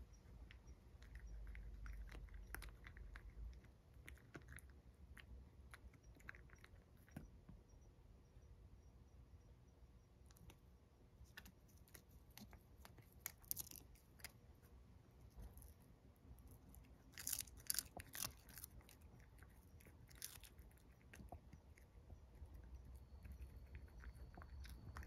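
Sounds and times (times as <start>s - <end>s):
cat crunching dried fish: 0.3s - 7.2s, 11.3s - 14.7s, 15.3s - 25.0s.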